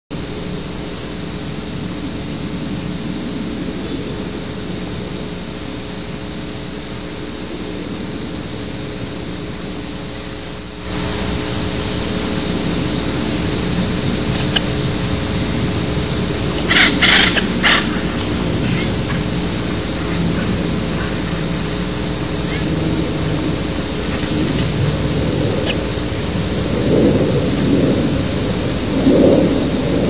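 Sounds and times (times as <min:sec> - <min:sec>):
electrical hum and hiss: 0:00.1 - 0:30.0.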